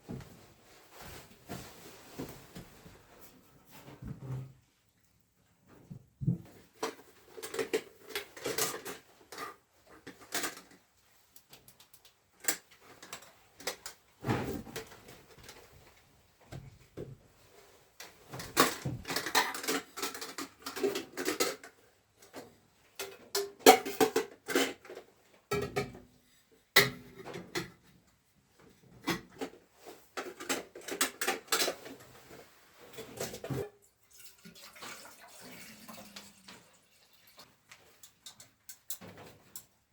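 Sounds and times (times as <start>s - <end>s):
objects clattering and knocking: 0.0s - 4.8s, 5.6s - 33.9s, 37.4s - 39.9s.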